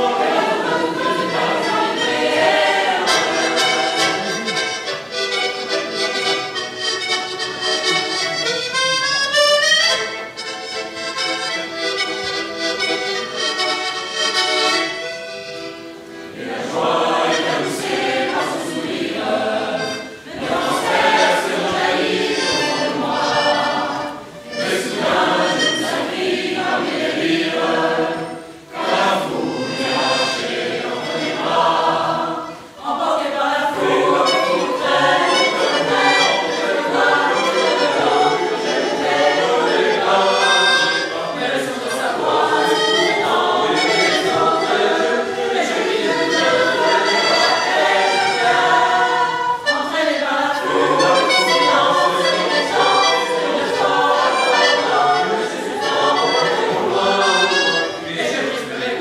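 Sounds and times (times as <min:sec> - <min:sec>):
accordion playing: 0:00.0 - 0:59.0
choir singing: 0:00.0 - 0:59.0.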